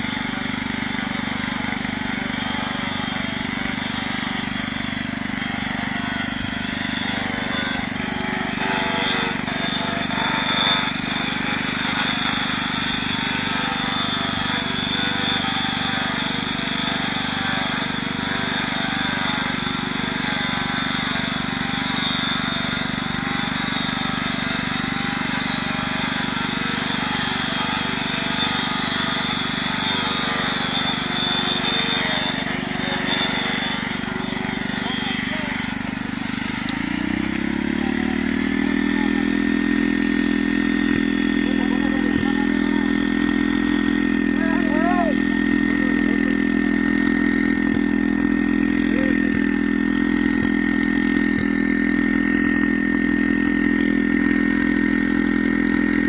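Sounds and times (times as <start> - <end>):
grinding machine motor drone: 0.0 - 56.0
high grinding whine: 0.0 - 56.0
small petrol engine running: 0.0 - 56.0.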